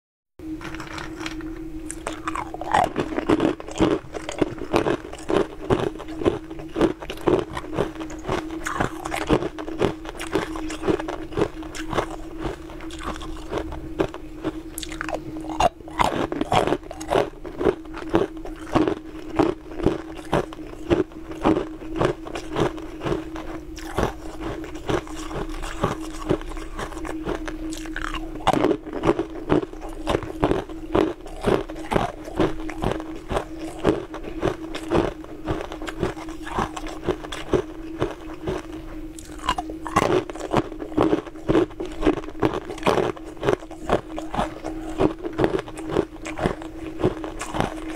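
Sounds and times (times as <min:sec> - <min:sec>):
steady low hum: 0:00.4 - 0:47.9
ice crunching between teeth: 0:00.6 - 0:47.9.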